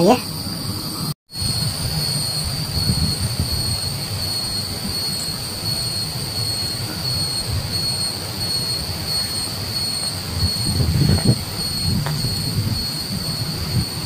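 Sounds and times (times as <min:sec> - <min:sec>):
insects droning: 0:00.0 - 0:14.0
low rumble on microphone: 0:00.4 - 0:08.7, 0:10.3 - 0:14.0.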